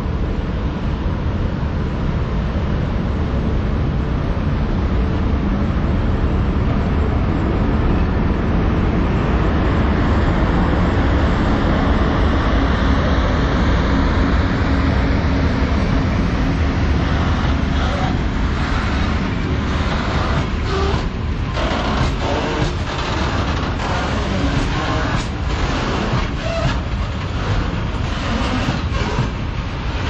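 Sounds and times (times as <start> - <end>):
freight train rumbling: 0.0 - 30.0
high whine: 0.0 - 30.0.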